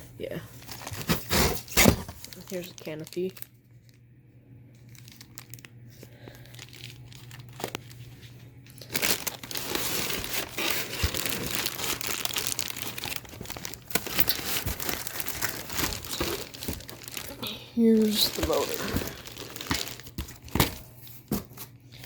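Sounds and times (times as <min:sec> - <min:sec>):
packaging rustling: 0:00.5 - 0:03.5, 0:04.8 - 0:21.6.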